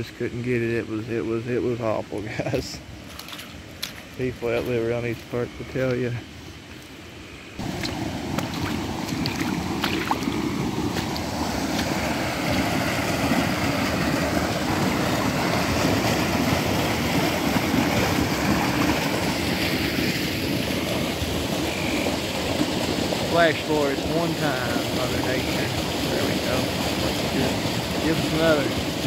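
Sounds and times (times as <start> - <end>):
creek water rushing: 2.4 - 29.0.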